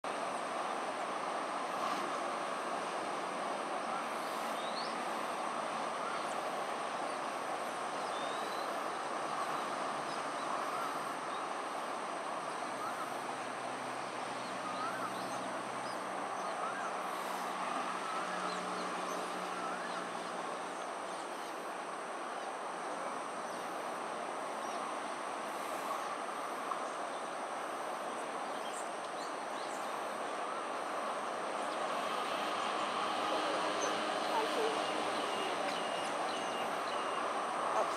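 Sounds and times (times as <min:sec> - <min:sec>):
outdoor background noise: 0:00.0 - 0:37.9.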